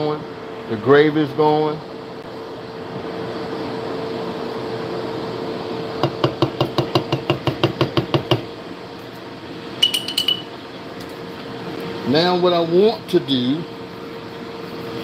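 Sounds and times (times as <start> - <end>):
air fryer and microwave humming: 0.0 - 15.0.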